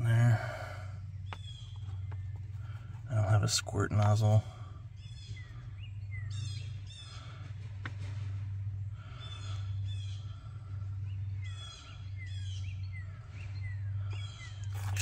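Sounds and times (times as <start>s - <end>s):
birds singing: 0.0s - 15.0s
steady low hum: 0.0s - 15.0s.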